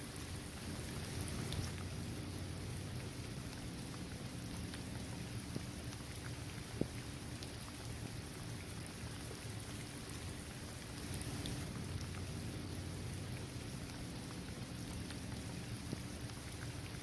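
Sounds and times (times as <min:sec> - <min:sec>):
raindrops ticking: 0:00.0 - 0:17.0
steady rain falling: 0:00.0 - 0:17.0.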